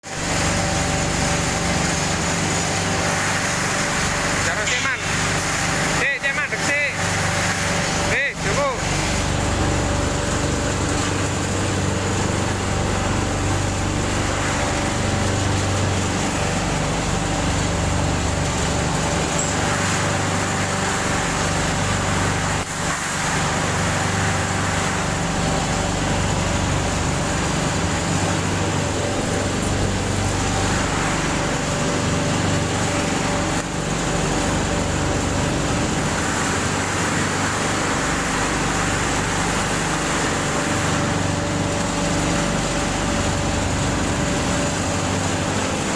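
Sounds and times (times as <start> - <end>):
machine humming: 0.0 - 45.9.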